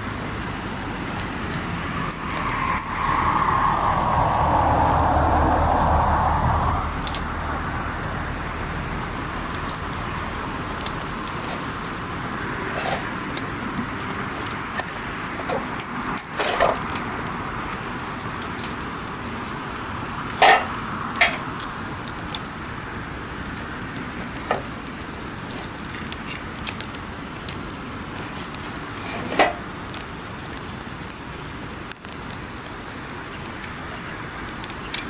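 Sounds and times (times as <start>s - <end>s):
burning wood popping: 0.0s - 35.0s
campfire crackling: 0.0s - 35.0s.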